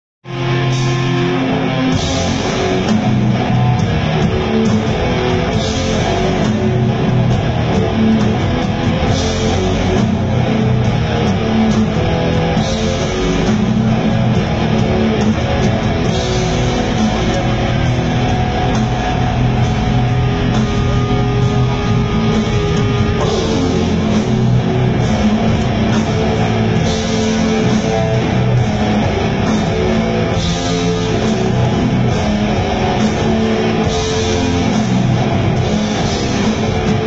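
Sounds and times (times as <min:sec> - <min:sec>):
metal band playing live: 0:00.2 - 0:37.0.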